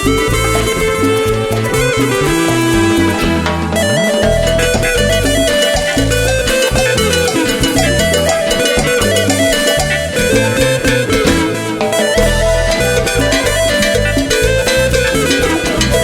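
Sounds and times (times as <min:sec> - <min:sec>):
cumbia band playing: 0:00.0 - 0:16.0.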